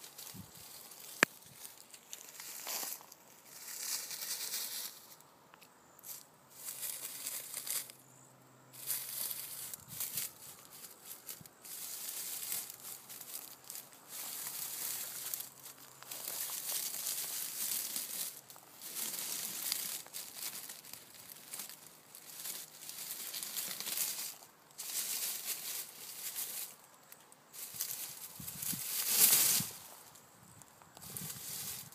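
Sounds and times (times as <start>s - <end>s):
dry leaves rustling and crunching: 0.0s - 5.2s, 6.0s - 8.0s, 8.7s - 30.2s, 31.0s - 31.9s.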